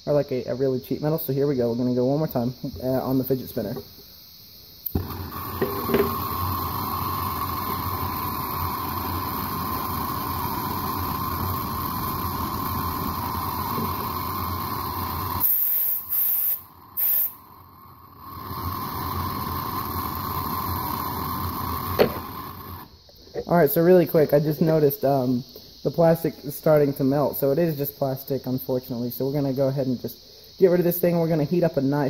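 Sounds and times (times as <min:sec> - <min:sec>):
blowtorch flame hissing: 0:02.6 - 0:31.6.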